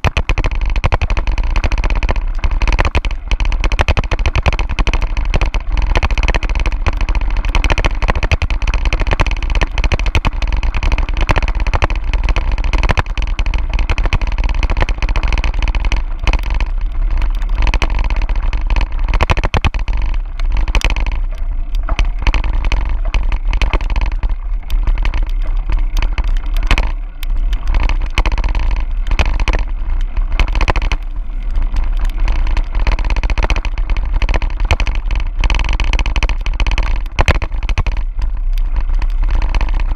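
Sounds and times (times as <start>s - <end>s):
bike rattling clicks: 0.0s - 39.9s.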